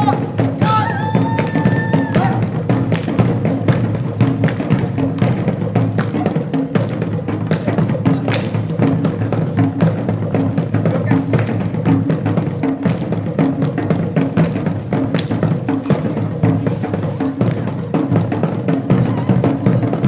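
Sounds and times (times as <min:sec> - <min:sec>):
drums beating fast rhythm: 0:00.0 - 0:20.0.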